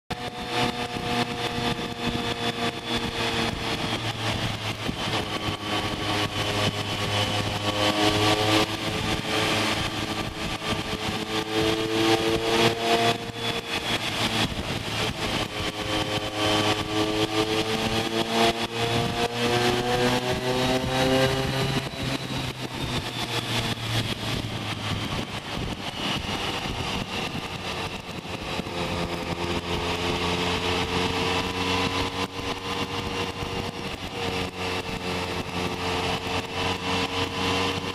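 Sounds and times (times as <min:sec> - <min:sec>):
motorcycle engine revving while riding: 0:00.1 - 0:37.9.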